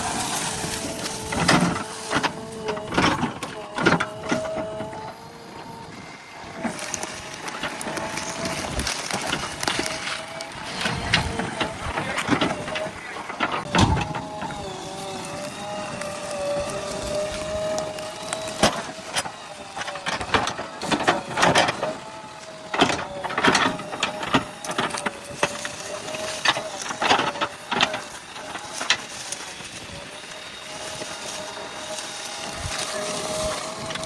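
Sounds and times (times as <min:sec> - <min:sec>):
machine whine: 0:00.0 - 0:34.0.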